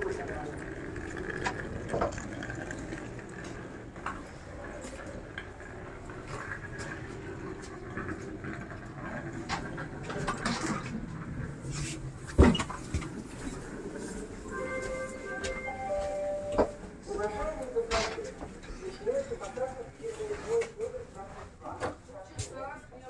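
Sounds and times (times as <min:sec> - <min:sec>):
train carriage rumble: 0:00.0 - 0:23.0.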